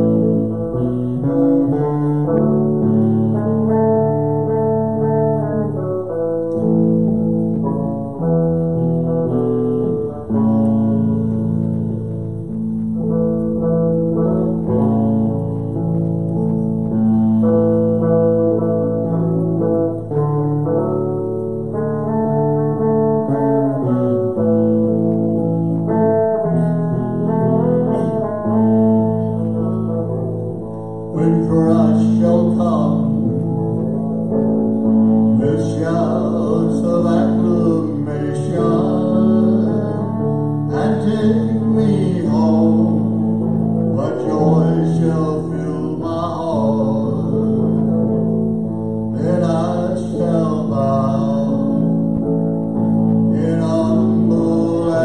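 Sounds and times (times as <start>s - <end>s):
electric and acoustic guitars: 0.0s - 55.0s.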